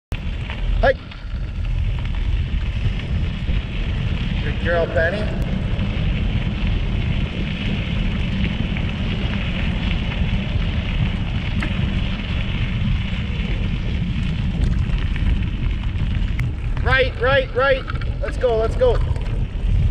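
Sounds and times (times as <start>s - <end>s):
stones ticking: 0.1s - 19.9s
tyres crunching on gravel: 0.1s - 19.9s
wind on microphone: 0.1s - 19.9s.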